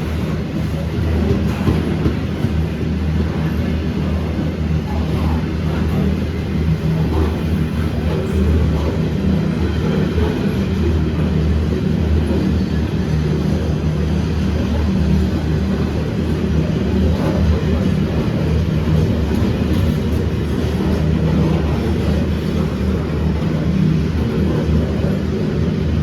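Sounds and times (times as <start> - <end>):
diesel locomotive drone: 0.0 - 26.0
train rumbling past: 0.0 - 26.0.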